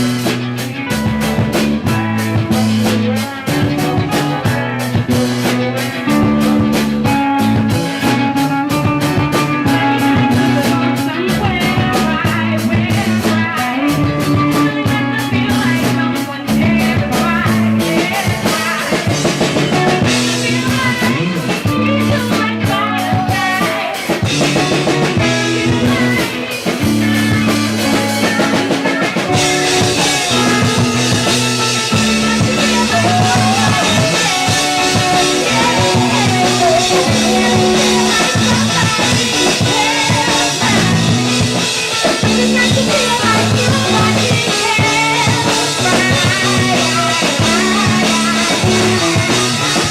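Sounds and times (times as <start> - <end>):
drum kit beat: 0.0 - 49.9
guitar: 0.0 - 49.9
repeating bass line: 0.0 - 49.9.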